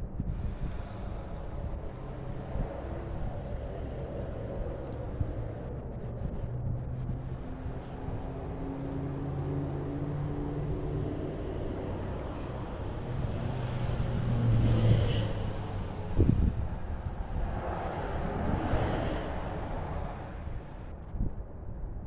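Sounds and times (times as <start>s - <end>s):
vehicle engine humming: 0.0s - 20.9s
outdoor rumble: 0.0s - 21.6s.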